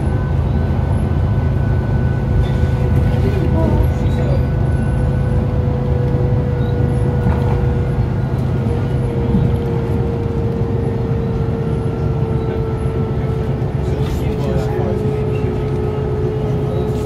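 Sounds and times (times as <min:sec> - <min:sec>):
bus engine and road rumble: 0:00.0 - 0:17.0
constant whine: 0:00.0 - 0:17.0.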